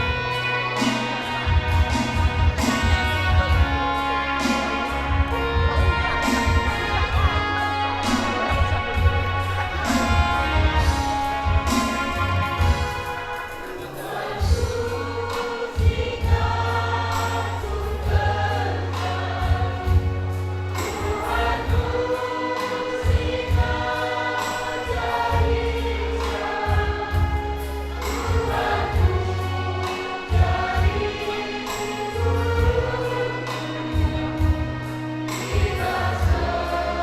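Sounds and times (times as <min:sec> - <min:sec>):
group of voices singing: 0:00.0 - 0:37.0
instrumental accompaniment: 0:00.0 - 0:37.0.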